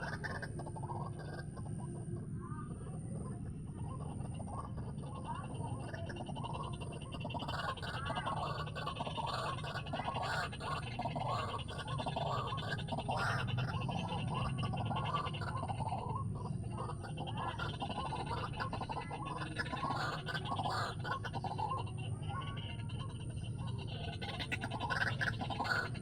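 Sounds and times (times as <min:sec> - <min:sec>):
waterhen gurgling chatter: 0:00.0 - 0:26.0.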